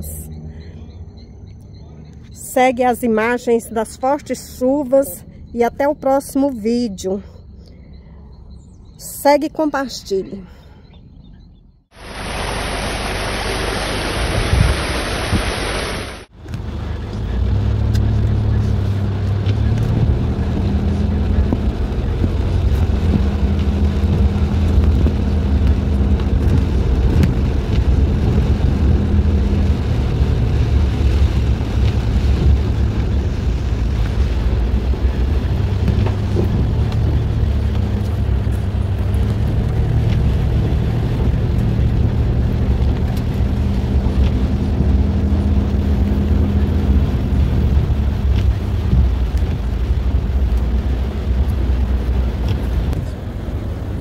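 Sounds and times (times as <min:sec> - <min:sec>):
car engine hum from cabin: 0:00.0 - 0:13.5, 0:16.2 - 0:54.0.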